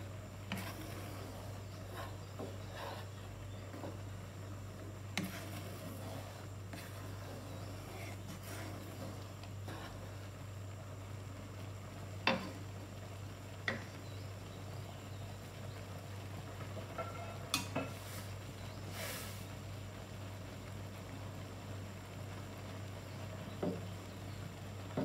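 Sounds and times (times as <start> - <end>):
sauce simmering in a pan: 0.0 - 25.0
steady low hum: 0.0 - 25.0.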